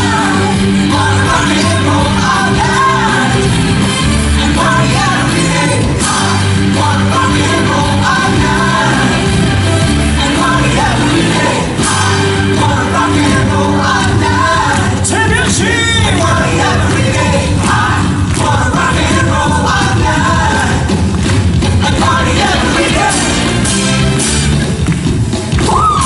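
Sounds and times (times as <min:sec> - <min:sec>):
people singing: 0:00.0 - 0:23.9
rock and roll band music: 0:00.0 - 0:26.0.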